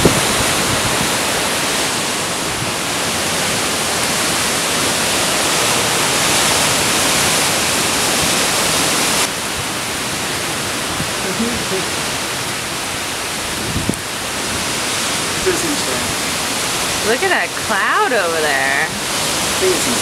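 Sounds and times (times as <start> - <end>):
rain: 0.0 - 20.0
wind tossing tree foliage: 0.0 - 20.0.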